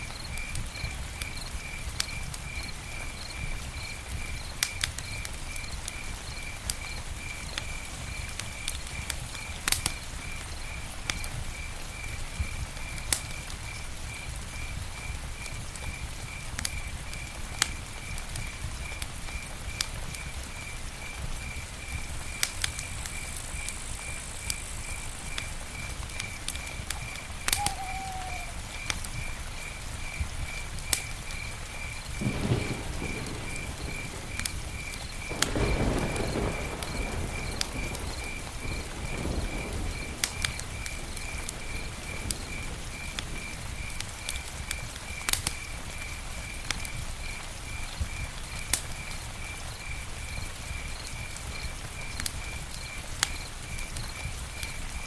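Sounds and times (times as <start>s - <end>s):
campfire crackling: 0.0s - 55.0s
rushing surges of fire: 0.2s - 47.5s.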